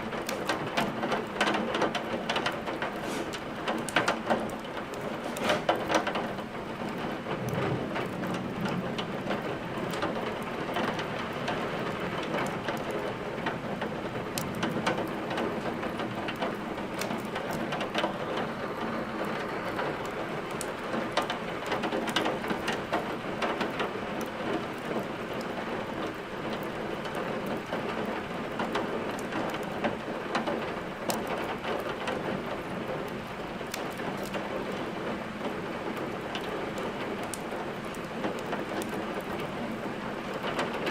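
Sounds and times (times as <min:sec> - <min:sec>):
firewood crackling and popping: 0:00.0 - 0:40.9
steady rain falling: 0:00.0 - 0:40.9.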